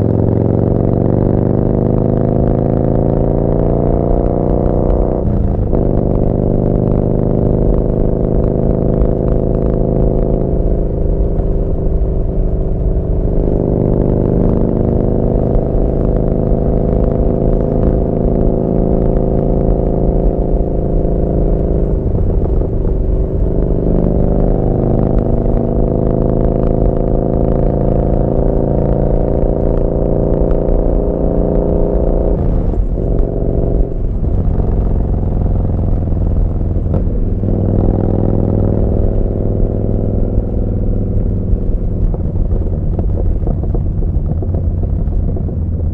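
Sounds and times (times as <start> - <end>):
loud v-twin motorcycle exhaust: 0.0 - 45.9.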